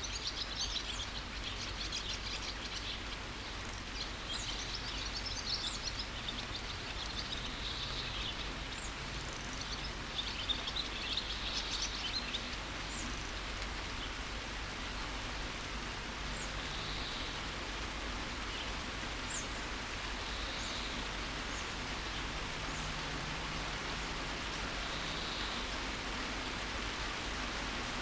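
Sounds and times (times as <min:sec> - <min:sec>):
birds chirping: 0:00.0 - 0:14.4, 0:16.3 - 0:27.4
steady rain falling: 0:00.0 - 0:28.0.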